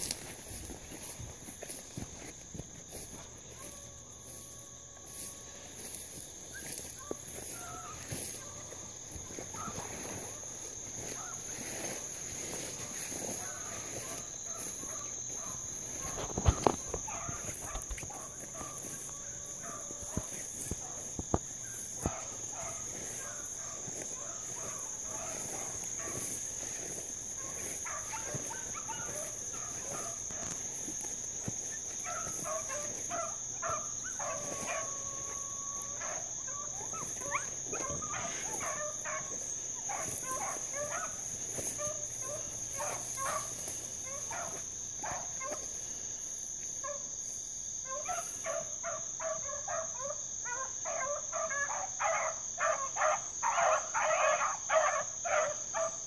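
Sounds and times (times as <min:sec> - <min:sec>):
hounds baying and barking: 0:00.0 - 0:56.0
night insects droning: 0:00.0 - 0:56.0.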